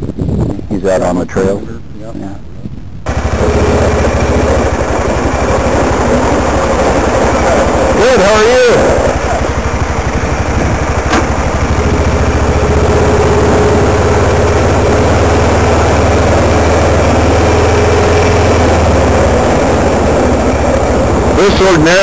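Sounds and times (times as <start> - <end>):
faint whine: 0.0 - 22.0
vehicle engine running: 2.8 - 22.0.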